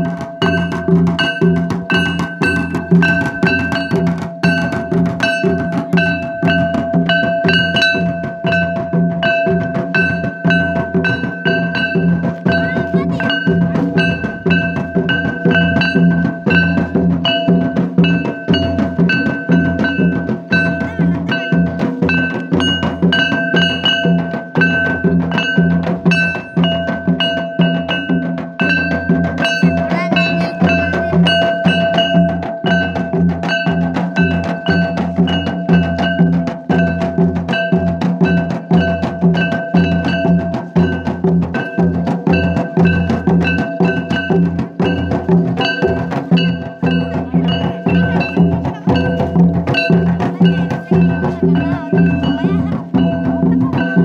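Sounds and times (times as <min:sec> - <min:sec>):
barrel drums fast rhythm: 0:00.0 - 0:54.0
steady ringing tone: 0:00.0 - 0:54.0.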